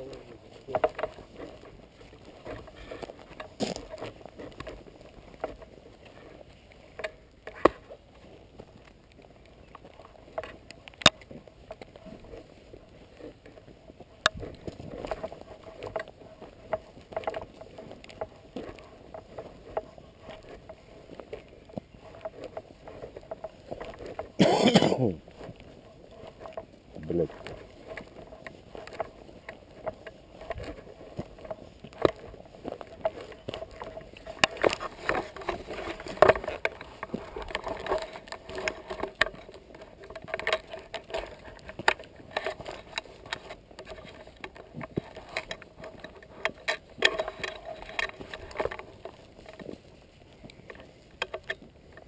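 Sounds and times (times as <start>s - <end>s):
rustling and scuffing: 0.0s - 52.0s.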